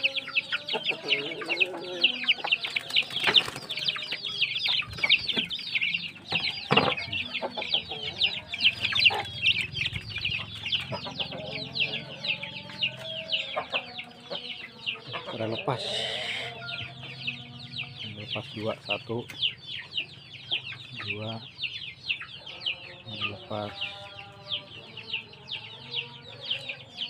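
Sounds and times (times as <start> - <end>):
chicks peeping: 0.0 - 27.0
hens clucking: 0.0 - 27.0.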